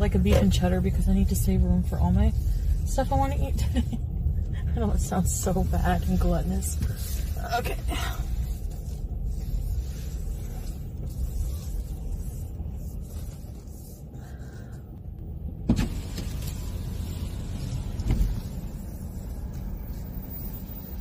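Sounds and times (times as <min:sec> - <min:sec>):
car engine rumble in cabin: 0:00.0 - 0:21.0.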